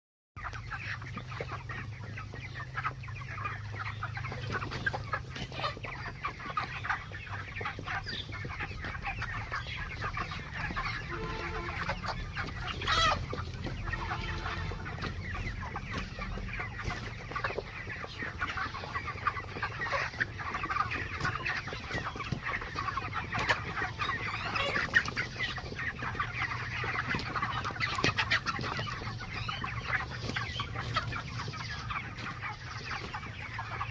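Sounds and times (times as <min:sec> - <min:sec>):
chickens clucking: 0:00.4 - 0:33.9
loud chicken call: 0:03.2 - 0:33.9.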